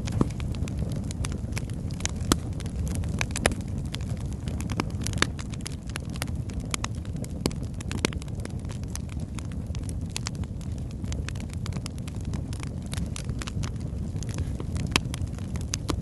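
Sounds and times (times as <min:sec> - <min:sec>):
fire crackles and pops: 0:00.0 - 0:16.0
low rumble of flame: 0:00.0 - 0:16.0.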